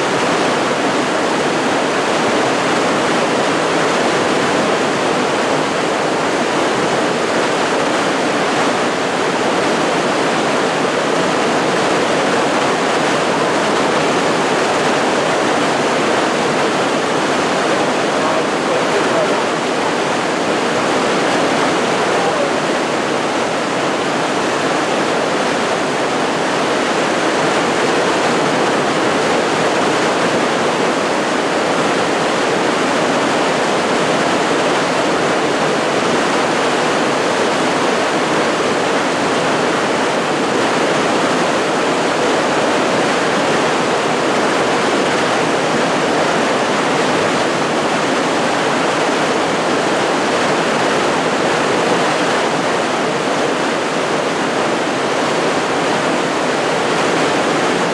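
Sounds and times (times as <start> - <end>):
waterfall rushing over rocks: 0.0 - 57.9.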